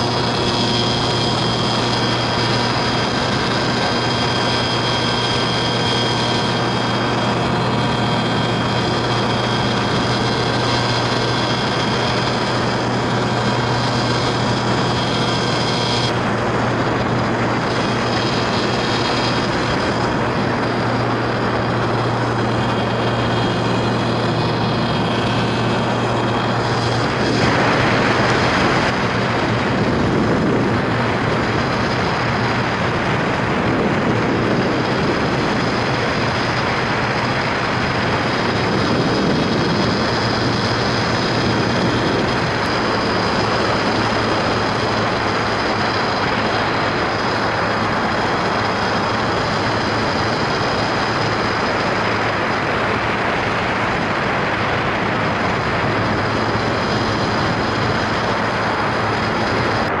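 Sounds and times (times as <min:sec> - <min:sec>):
small engine running: 0:00.0 - 1:00.0
wind rushing over microphone: 0:00.0 - 1:00.0.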